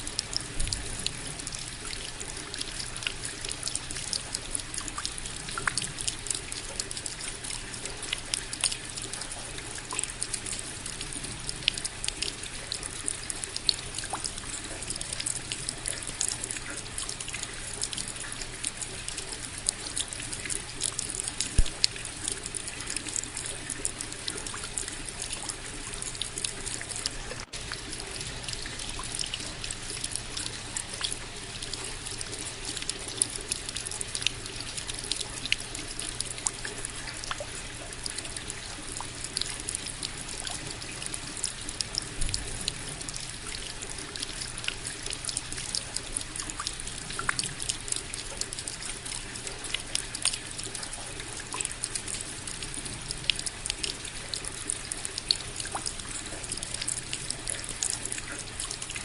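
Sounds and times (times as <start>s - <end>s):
rain drops pattering: 0.0s - 59.0s
water trickling: 0.0s - 59.0s.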